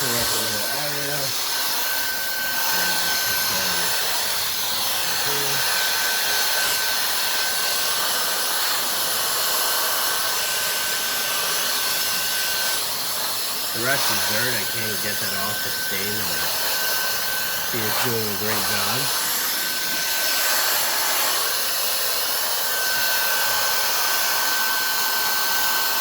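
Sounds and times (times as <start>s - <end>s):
air duster motor whining: 0.0s - 26.0s.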